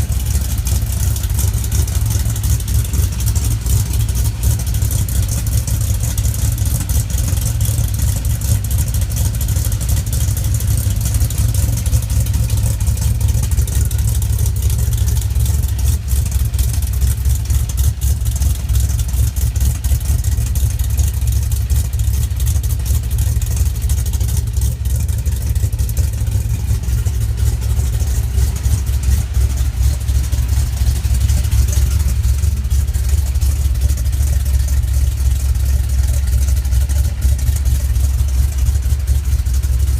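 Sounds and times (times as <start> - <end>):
engine idling with deep exhaust rumble: 0.0 - 39.9.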